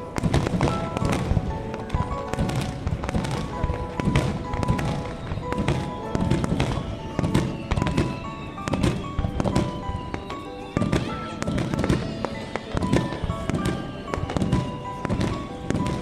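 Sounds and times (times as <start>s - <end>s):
fireworks booming and cracking: 0.0s - 16.0s
music: 0.0s - 16.0s.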